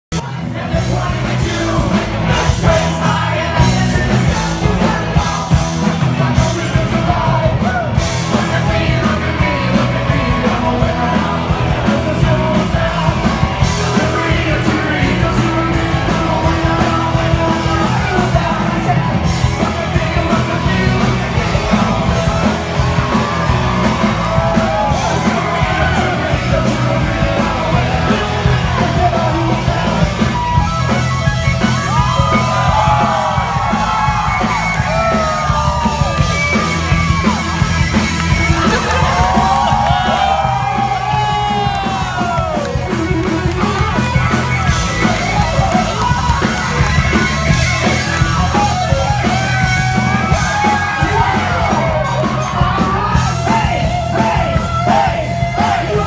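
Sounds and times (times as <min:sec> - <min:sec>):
drums: 0:00.0 - 0:56.0
electric bass: 0:00.0 - 0:56.0
keyboard: 0:00.1 - 0:56.0
singer singing and yelling: 0:00.1 - 0:56.0
electric guitar: 0:00.2 - 0:56.0.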